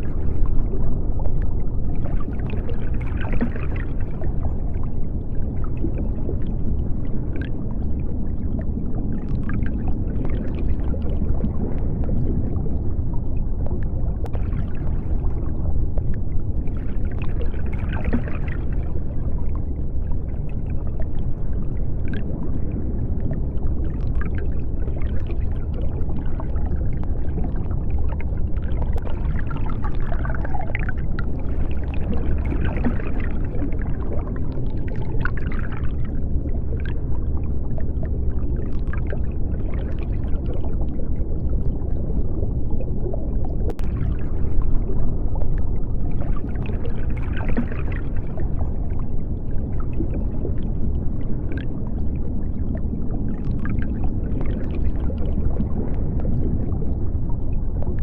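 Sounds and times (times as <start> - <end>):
faint bubbling: 0.0 - 58.0
low underwater rumble: 0.0 - 58.0.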